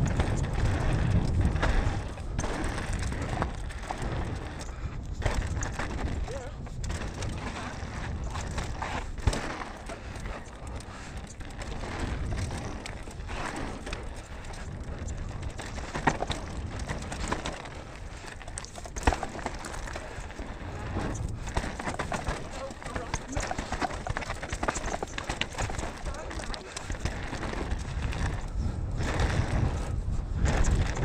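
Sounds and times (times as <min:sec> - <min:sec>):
bike tyres rolling rumble: 0:00.0 - 0:31.0.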